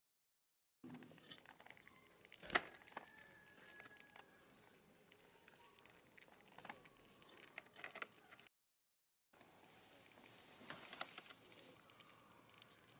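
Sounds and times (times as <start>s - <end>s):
budgies scratching and shuffling: 1.0s - 8.5s, 9.7s - 12.9s.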